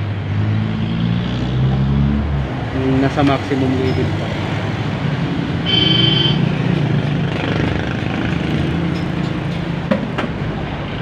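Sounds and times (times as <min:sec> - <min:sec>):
vehicle engine and traffic: 0:00.0 - 0:11.0.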